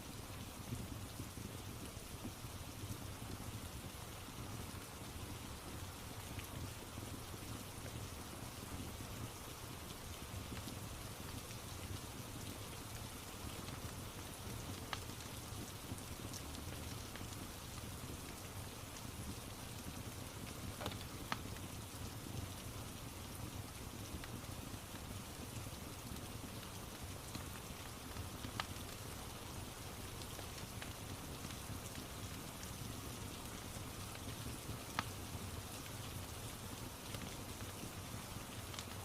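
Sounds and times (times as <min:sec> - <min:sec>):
steady rain: 0:00.0 - 0:39.0
wood fire crackling and popping: 0:00.1 - 0:39.0.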